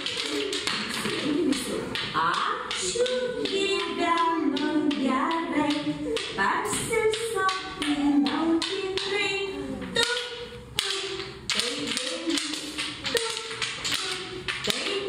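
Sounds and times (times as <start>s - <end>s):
sharp rhythmic taps: 0.0s - 15.0s
woman singing: 0.0s - 15.0s.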